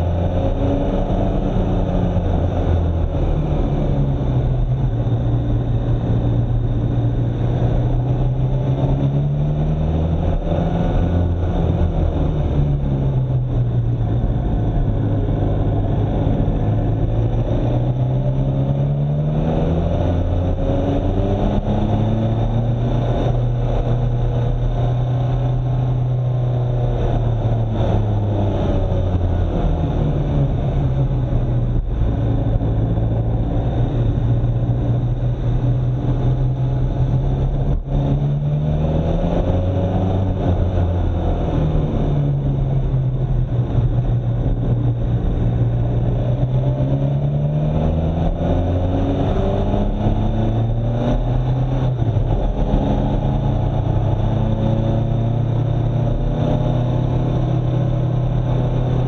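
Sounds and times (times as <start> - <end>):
car engine revving: 0.0 - 59.0
road noise: 0.0 - 59.0.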